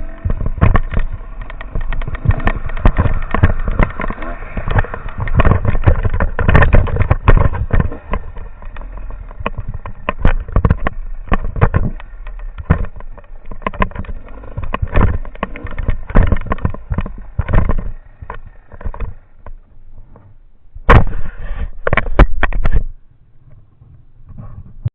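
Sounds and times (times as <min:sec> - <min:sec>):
motorcycle knocks and jolts: 0:00.0 - 0:23.0
low motorcycle engine rumble: 0:00.0 - 0:24.9.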